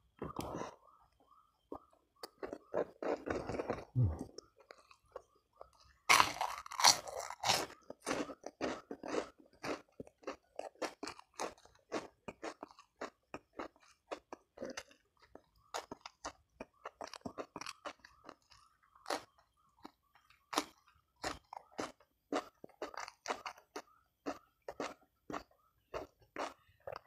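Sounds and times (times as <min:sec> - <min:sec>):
crunchy chewing: 0:00.2 - 0:27.0.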